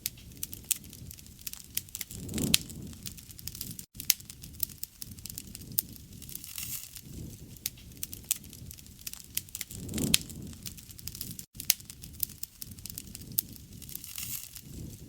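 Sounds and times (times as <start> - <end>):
campfire crackles and pops: 0.0 - 15.0
low rumble of flames: 0.0 - 15.0.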